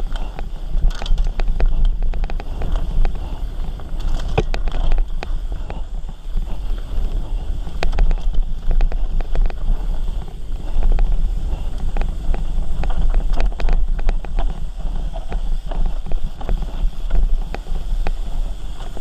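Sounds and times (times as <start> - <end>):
bike rattling and knocking: 0.0 - 19.0
wind buffeting microphone: 0.0 - 19.0.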